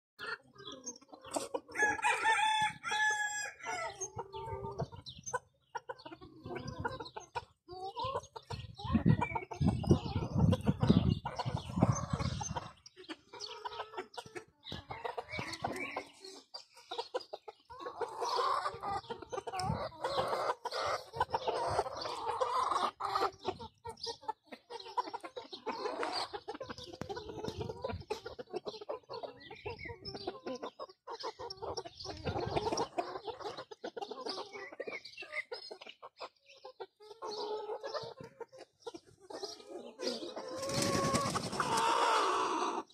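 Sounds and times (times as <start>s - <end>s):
chickens clucking and calling: 0.2s - 42.9s.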